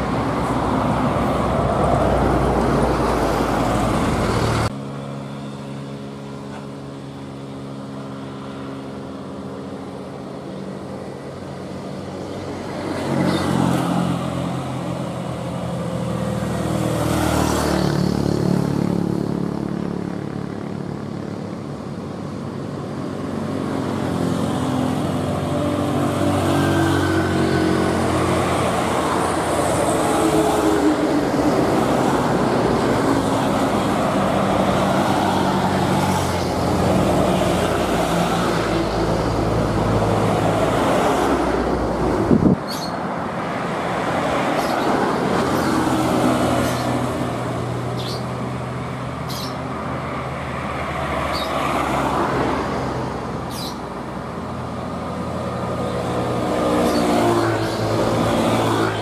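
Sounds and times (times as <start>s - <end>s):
heavy trucks passing: 0.0s - 59.0s.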